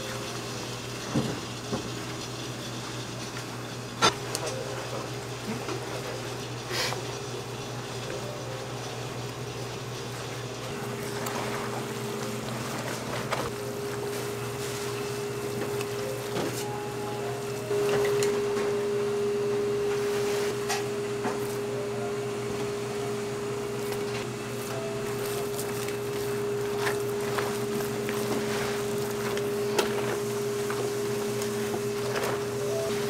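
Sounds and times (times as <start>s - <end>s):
kitchen hum: 0.0s - 33.0s.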